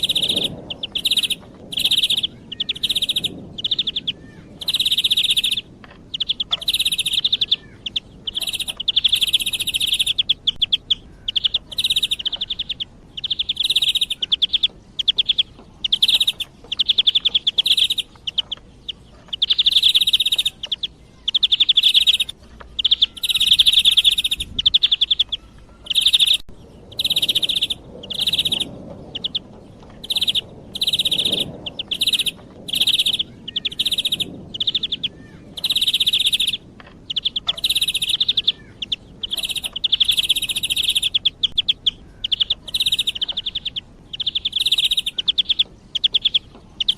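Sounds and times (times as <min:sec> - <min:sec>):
bird calls trilling: 0:00.0 - 0:46.9.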